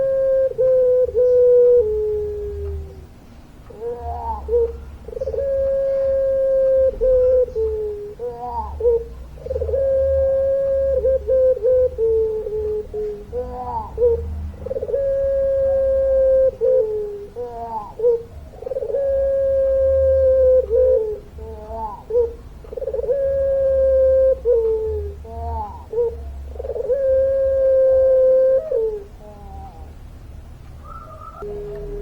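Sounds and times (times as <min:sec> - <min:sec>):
dove cooing: 0:00.0 - 0:30.0, 0:30.8 - 0:32.0.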